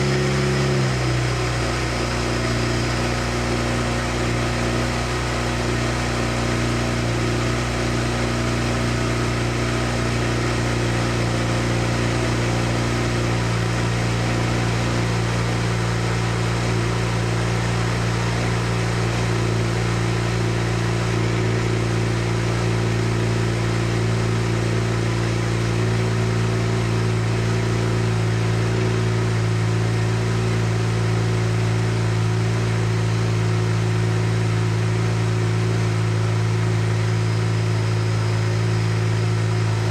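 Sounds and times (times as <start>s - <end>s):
rotary engine idling: 0.0s - 32.8s.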